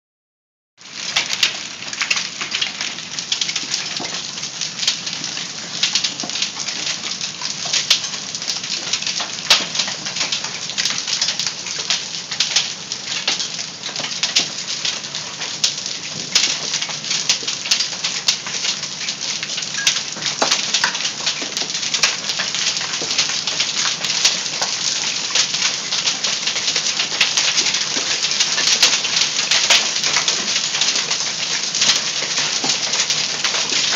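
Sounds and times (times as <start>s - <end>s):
hail clattering on surfaces: 1.0s - 33.9s.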